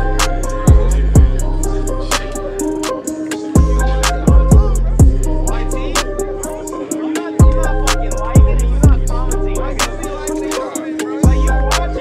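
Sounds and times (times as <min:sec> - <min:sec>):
deep bass: 0:00.0 - 0:02.9, 0:03.6 - 0:06.8, 0:07.4 - 0:10.6, 0:11.2 - 0:12.0
hi-hat ticks: 0:00.0 - 0:12.0.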